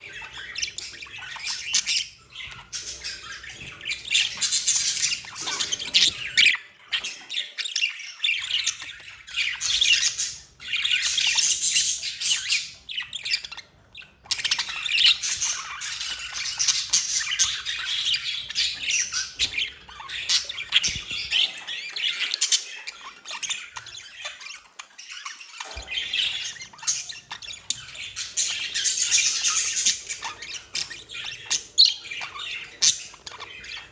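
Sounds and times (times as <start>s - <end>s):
budgerigars warbling and chattering: 0.0s - 33.9s.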